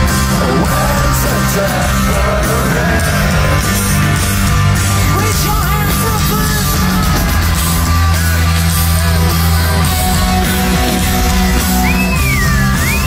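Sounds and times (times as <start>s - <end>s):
bass notes: 0.0s - 13.0s
distorted electric guitars: 0.0s - 13.0s
drums: 0.0s - 13.0s.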